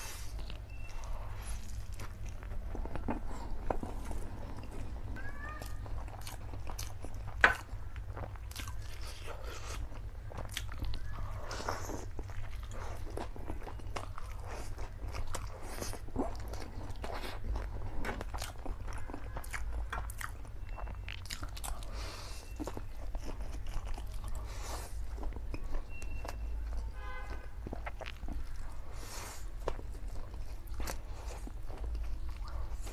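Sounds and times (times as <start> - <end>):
person chewing noodles: 0.0 - 32.9.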